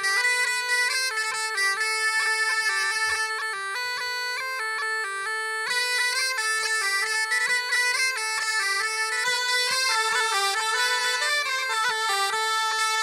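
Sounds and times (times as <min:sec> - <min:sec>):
bagpipe playing dance tune: 0:00.0 - 0:13.0.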